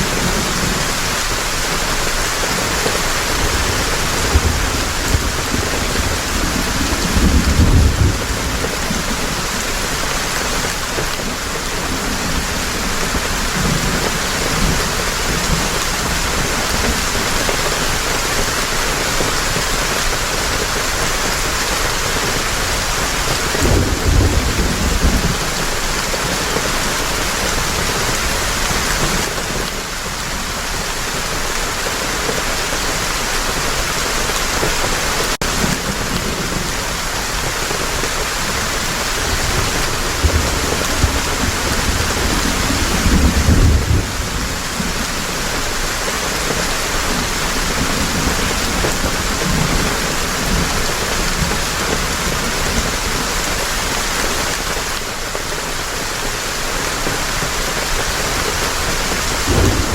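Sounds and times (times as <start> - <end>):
thunder rumbles: 0.0 - 31.1, 35.4 - 55.2, 57.3 - 59.9
heavy rain pouring: 0.0 - 59.9.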